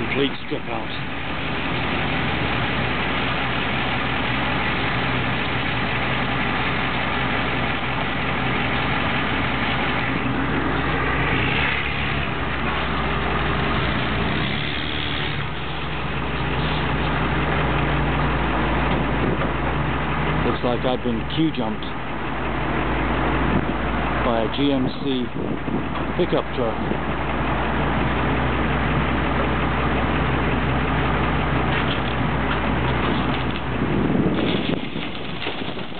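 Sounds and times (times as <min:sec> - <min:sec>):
truck engine running: 0:00.0 - 0:35.9.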